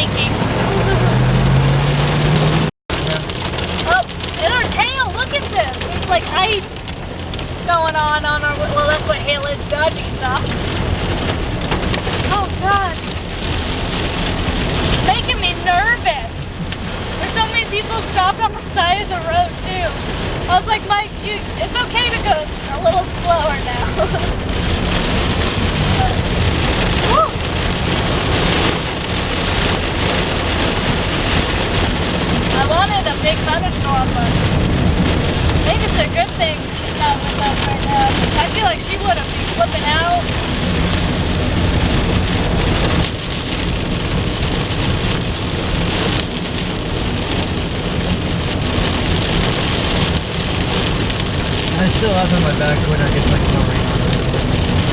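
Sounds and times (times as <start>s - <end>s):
car rumble: 0.0s - 54.9s
heavy rain drumming on car: 0.0s - 54.9s.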